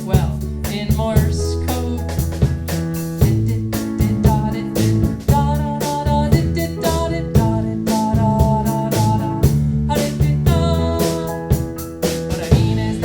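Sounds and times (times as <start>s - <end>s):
band playing instrumental: 0.0s - 13.0s
drum kit beat: 0.0s - 13.0s.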